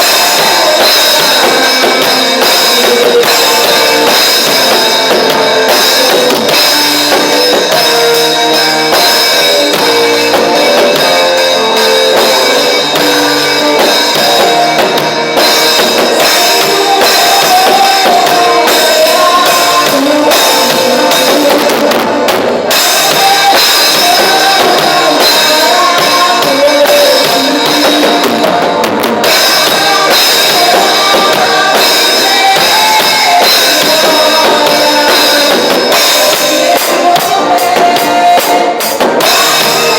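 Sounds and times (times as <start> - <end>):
drum kit beat: 0.0 - 39.9
instrumental worship music: 0.0 - 39.9.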